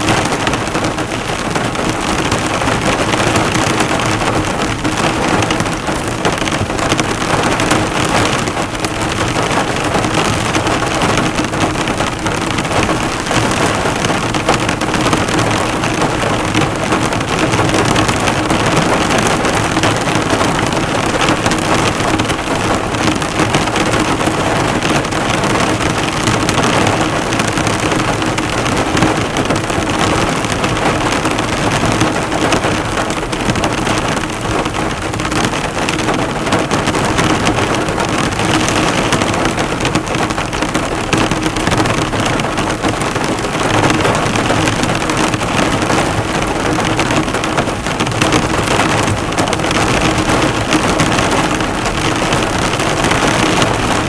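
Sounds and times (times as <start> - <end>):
heavy rain on a car: 0.0 - 54.0.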